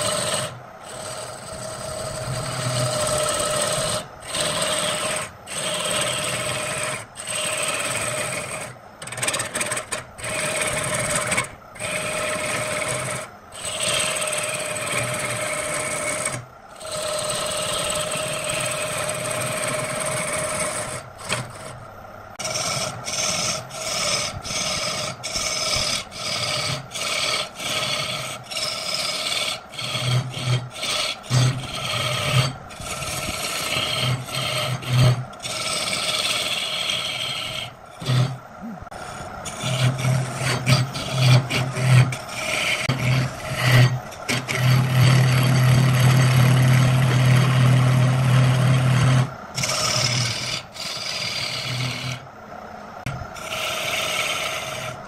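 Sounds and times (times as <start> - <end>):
hand rasp filing wood: 0.0 - 21.8, 22.4 - 52.3, 53.1 - 55.0.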